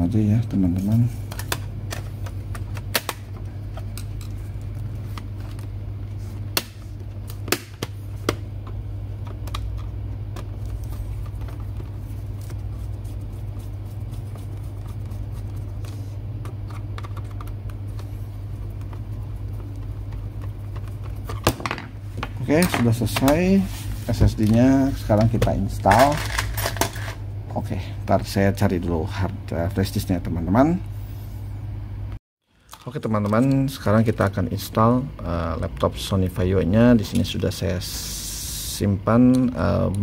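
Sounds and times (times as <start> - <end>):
low hum: 0.0 - 32.2.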